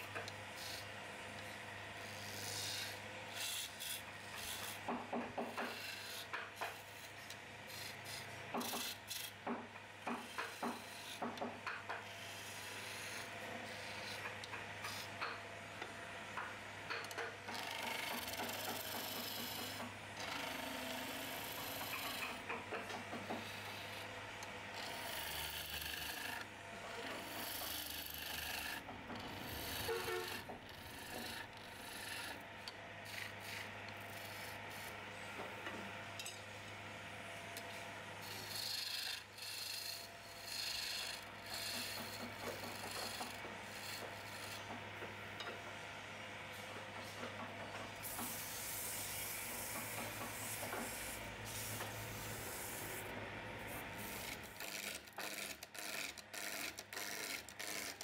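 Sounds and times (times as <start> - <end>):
chisel shaving wood on lathe: 0.0 - 15.2, 16.9 - 35.5, 37.6 - 45.0, 48.1 - 58.0.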